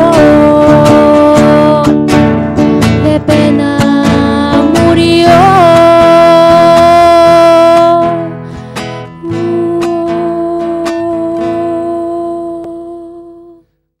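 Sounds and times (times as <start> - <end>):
nylon-string guitar playing: 0.0 - 13.8.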